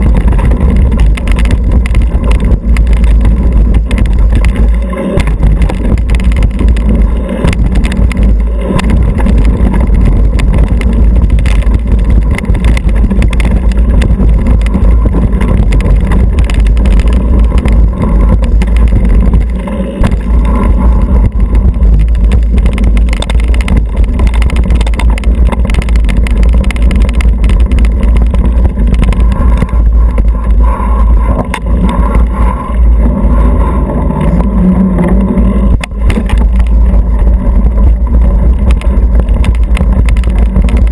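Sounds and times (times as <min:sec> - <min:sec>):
bike rattling and knocking: 0:00.0 - 0:32.4, 0:35.2 - 0:40.9
tyres rolling on dirt trail: 0:00.0 - 0:40.9
wind rumble on microphone: 0:00.0 - 0:40.9.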